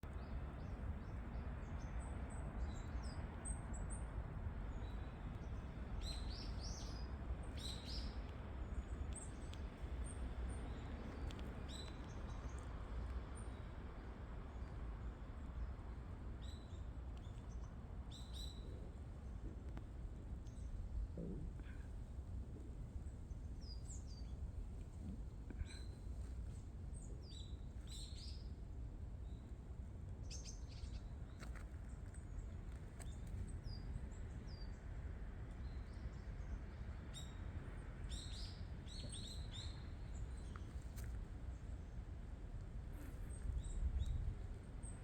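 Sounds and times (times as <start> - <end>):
steady low background noise: 0.0 - 45.0.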